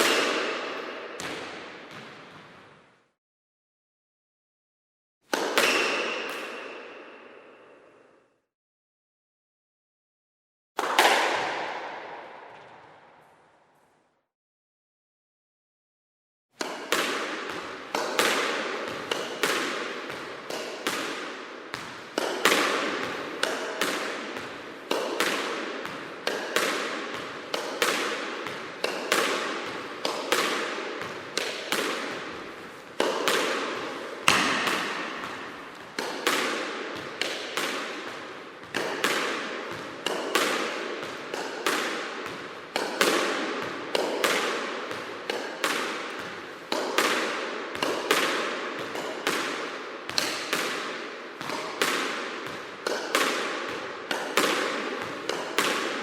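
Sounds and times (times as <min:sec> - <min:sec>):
racquetball hits off walls: 0:00.0 - 0:03.0, 0:05.3 - 0:07.9, 0:10.8 - 0:13.4, 0:16.6 - 0:56.0.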